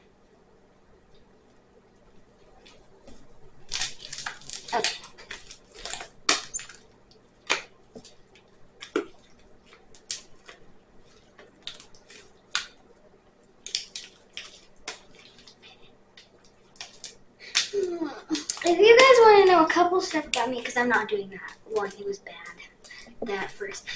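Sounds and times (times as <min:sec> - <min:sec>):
slime squelching: 0:02.6 - 0:12.9, 0:13.5 - 0:23.9.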